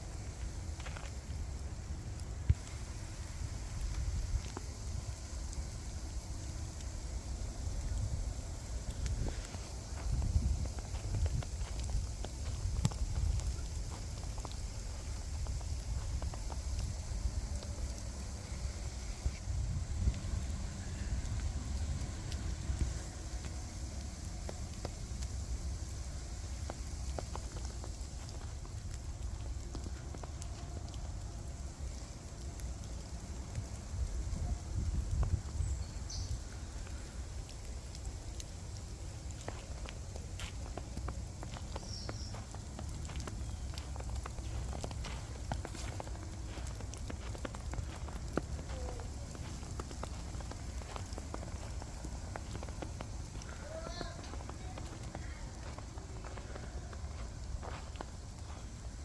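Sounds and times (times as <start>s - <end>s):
ice pellets pattering: 0.0s - 59.0s
wind rumbling on microphone: 0.0s - 59.0s
precipitation ticking on surfaces: 0.3s - 59.0s.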